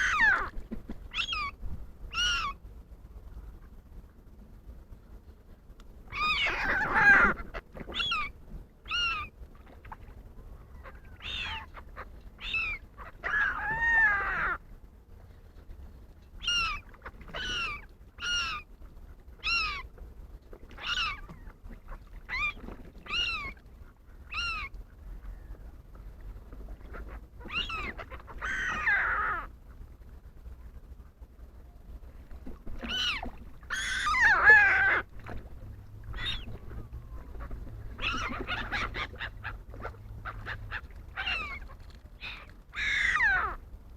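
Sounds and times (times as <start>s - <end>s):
water birds mewing calls: 0.0s - 2.7s, 6.0s - 14.7s, 16.4s - 43.9s.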